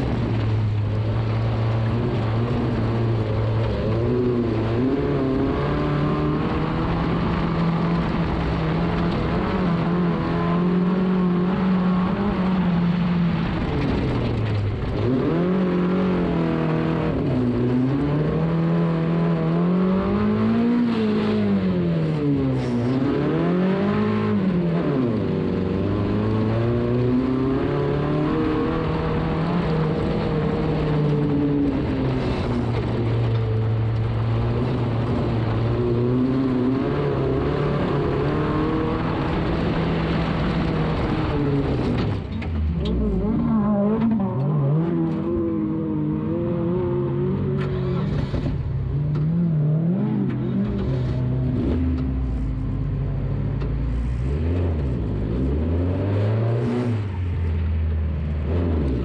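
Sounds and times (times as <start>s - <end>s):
racing car engine revving: 0.0s - 59.0s.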